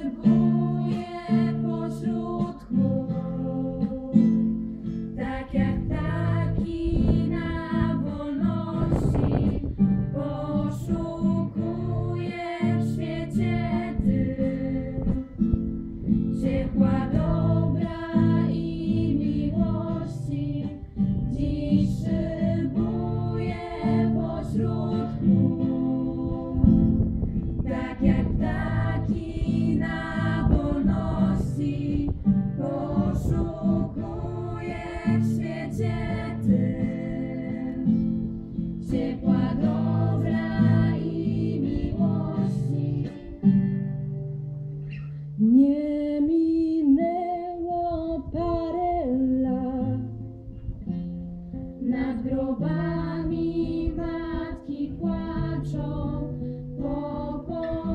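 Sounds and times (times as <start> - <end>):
women singing together: 0.0 - 43.9, 51.8 - 57.9
strummed acoustic guitar: 0.0 - 45.5, 49.9 - 57.9.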